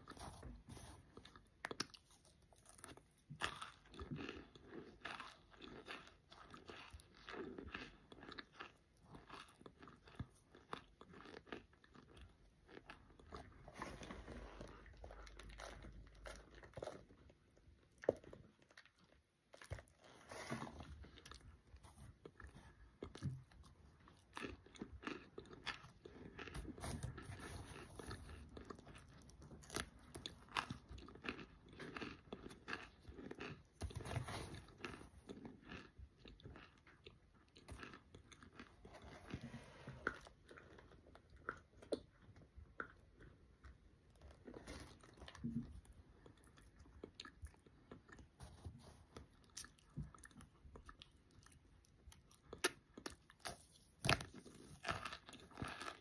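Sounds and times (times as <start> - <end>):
chewing with soft crunch: 0.0 - 56.0.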